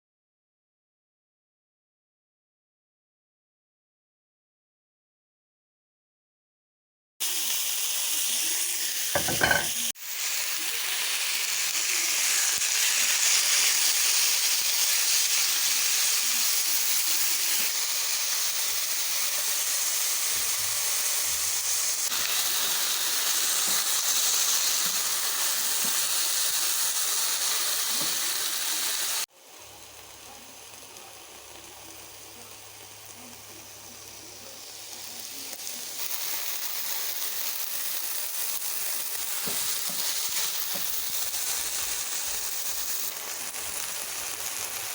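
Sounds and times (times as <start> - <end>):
chicken sizzling in a hot pan: 7.2 - 44.9.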